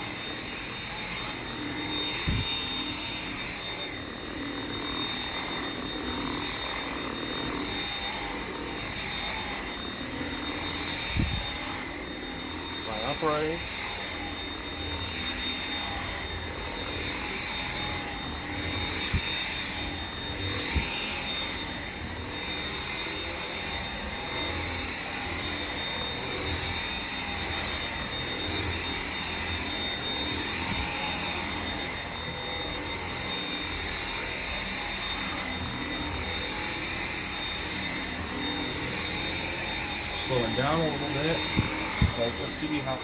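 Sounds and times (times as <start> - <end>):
vacuum cleaner motor whine: 0.0 - 43.0.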